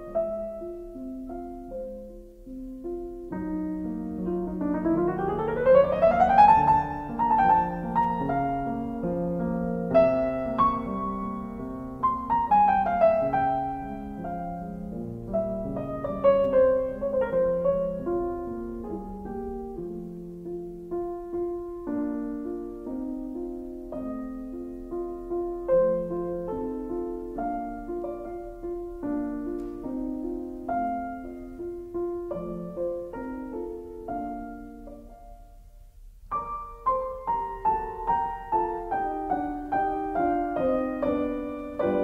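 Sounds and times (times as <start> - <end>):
solo piano music: 0.0 - 42.0.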